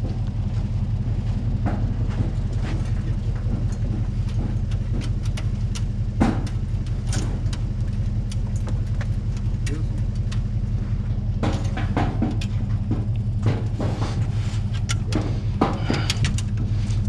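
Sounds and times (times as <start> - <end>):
truck engine idling: 0.0 - 17.0
knocks and clicks at dog box: 1.6 - 10.4, 11.4 - 16.7.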